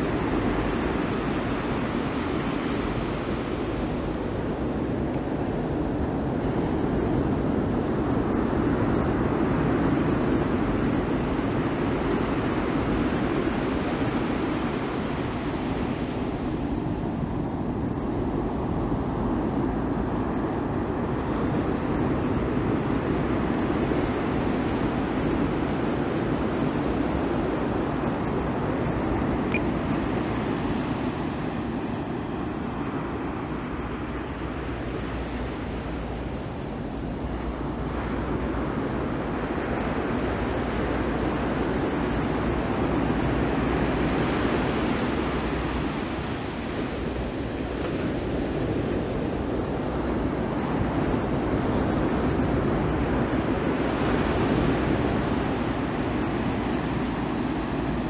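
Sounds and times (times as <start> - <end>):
ocean surf: 0.0 - 58.0
wind: 0.0 - 58.0.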